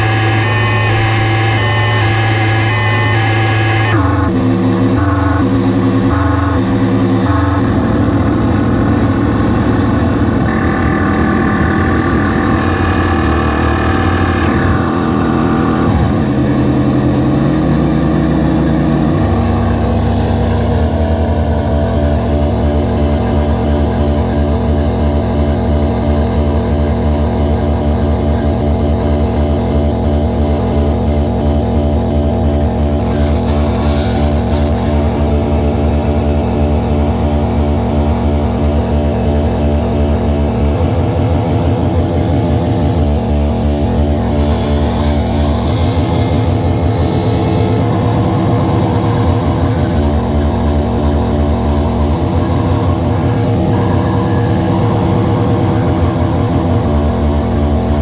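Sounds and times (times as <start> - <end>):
stuttering electronic drone: 0.0 - 58.0.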